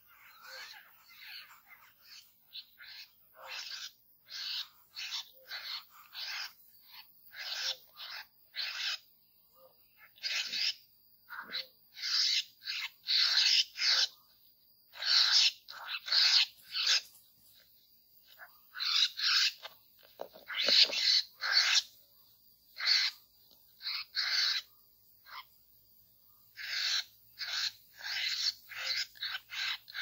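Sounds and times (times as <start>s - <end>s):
bird harsh rasping calls: 0.0s - 9.1s, 9.9s - 14.3s, 14.9s - 25.6s, 26.4s - 30.0s.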